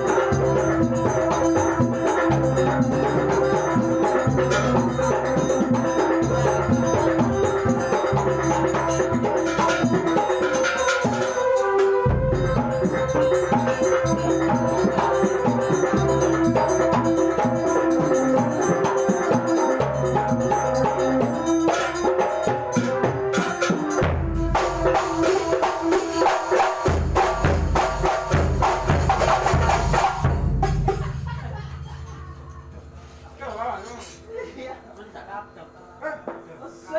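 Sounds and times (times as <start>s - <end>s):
percussion ensemble playing: 0.0s - 34.4s.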